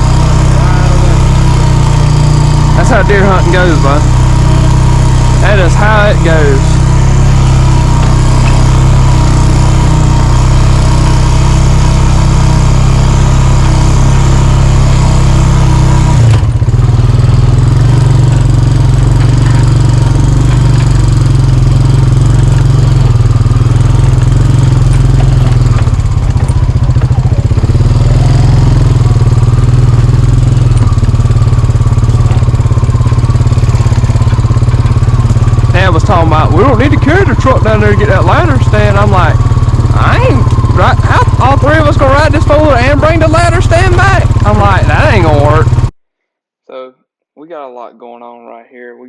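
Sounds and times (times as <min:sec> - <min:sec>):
vehicle engine running: 0:00.0 - 0:46.0.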